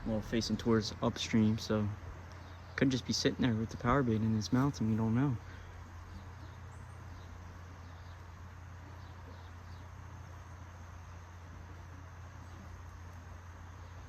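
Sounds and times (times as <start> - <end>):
even hiss: 0.0 - 14.0
steady low hum: 0.0 - 14.0.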